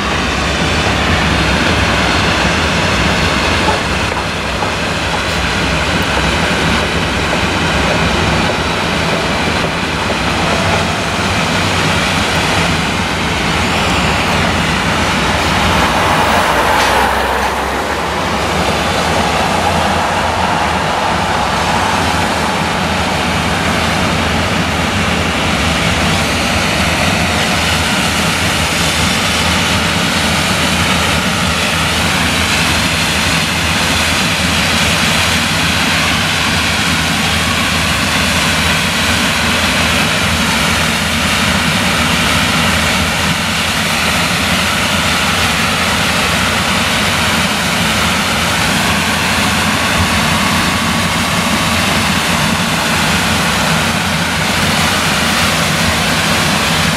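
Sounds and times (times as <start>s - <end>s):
combine harvester droning: 0.0s - 56.9s.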